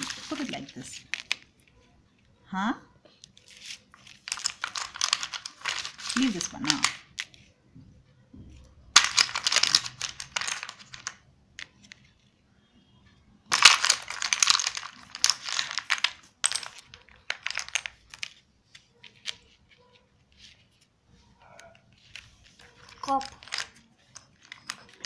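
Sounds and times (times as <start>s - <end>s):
wooden blocks clicking and clattering: 0.0s - 1.8s, 3.1s - 7.5s, 8.5s - 12.4s, 13.4s - 25.0s.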